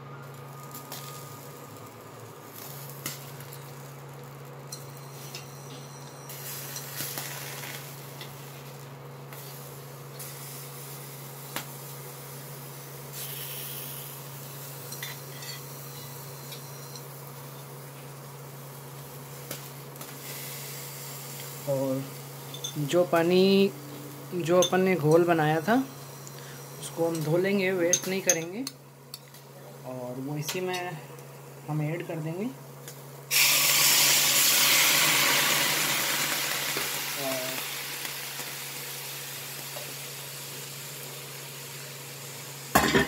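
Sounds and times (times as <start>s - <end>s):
cooktop humming: 0.0s - 43.0s
spices sizzling: 0.1s - 43.0s.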